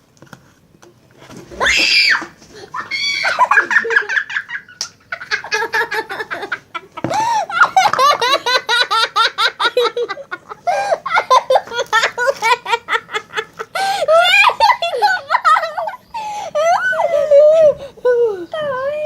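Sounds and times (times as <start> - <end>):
children laughing: 1.6 - 18.9.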